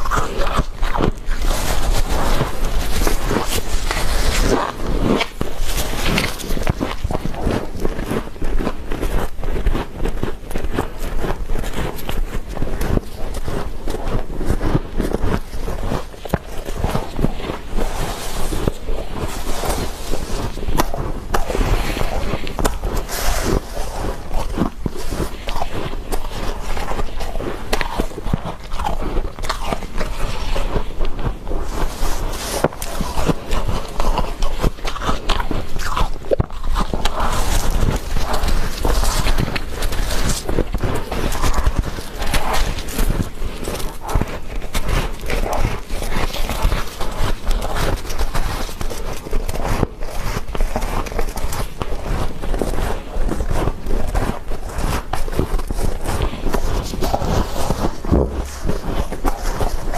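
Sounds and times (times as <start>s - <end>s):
frost crunching while chewed: 0.0s - 59.9s
gloved hands scooping frost: 0.0s - 59.9s.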